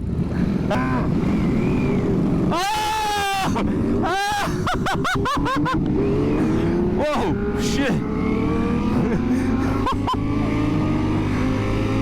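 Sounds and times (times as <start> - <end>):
engine and road rumble: 0.0 - 12.0
motorcycle engines revving: 0.0 - 12.0.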